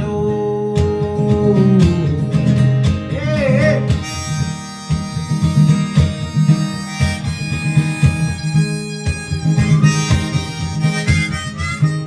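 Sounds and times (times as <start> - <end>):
strummed acoustic guitar: 0.0 - 12.0
bluesy harmonica playing: 2.3 - 12.0.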